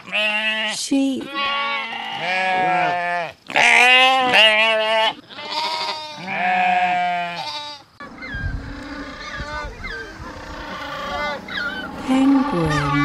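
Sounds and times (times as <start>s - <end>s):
sheep bleating: 0.0s - 8.0s, 10.5s - 13.0s.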